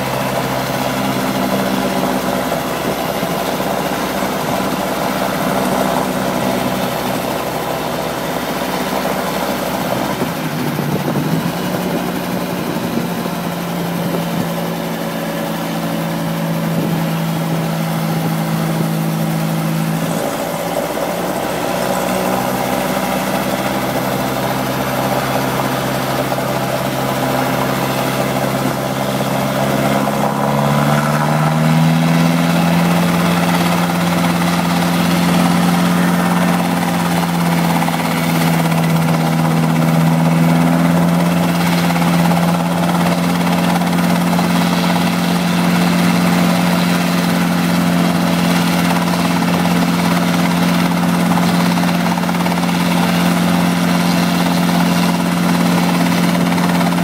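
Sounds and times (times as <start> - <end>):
helicopter engine and rotor hum: 0.0 - 57.0.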